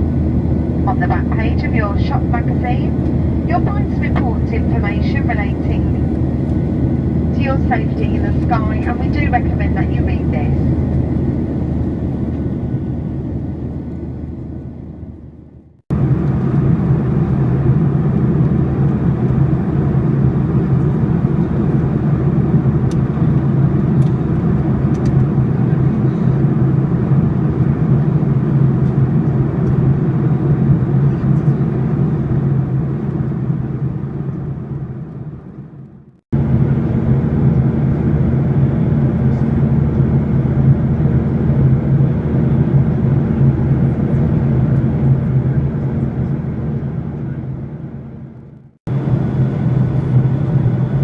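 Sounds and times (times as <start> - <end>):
airplane cabin drone: 0.0 - 51.0.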